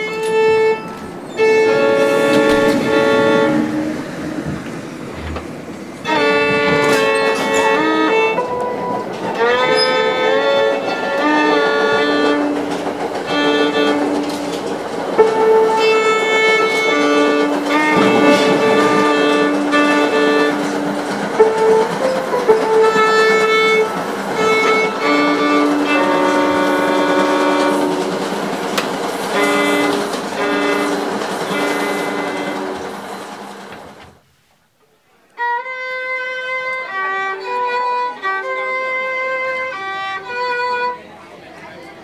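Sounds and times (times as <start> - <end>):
solo violin bowed notes: 0.0 - 32.9, 35.4 - 41.9
steady hissing noise: 0.0 - 40.4.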